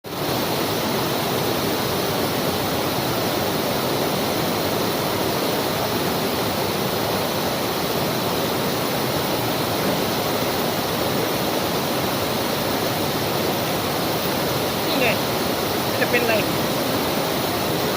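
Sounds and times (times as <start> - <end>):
waterfall rushing and splashing: 0.0 - 17.9.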